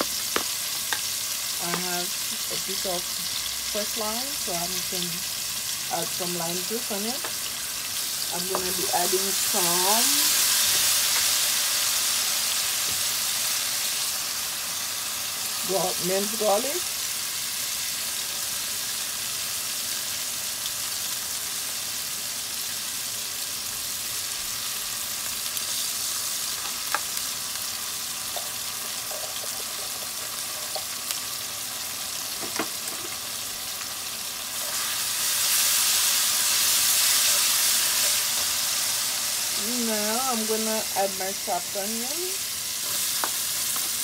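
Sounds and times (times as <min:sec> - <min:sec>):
garlic sizzling in oil: 0:00.0 - 0:44.0.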